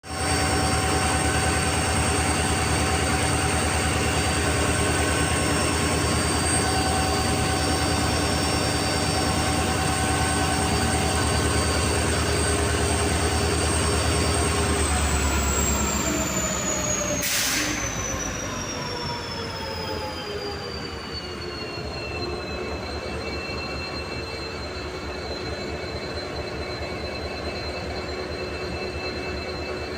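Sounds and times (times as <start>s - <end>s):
diesel locomotive engine running: 0.0s - 29.9s.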